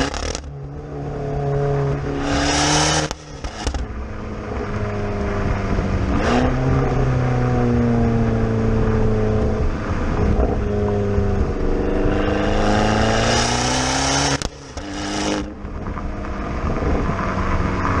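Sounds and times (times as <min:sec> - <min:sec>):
car engine revving under load: 0:00.0 - 0:18.0.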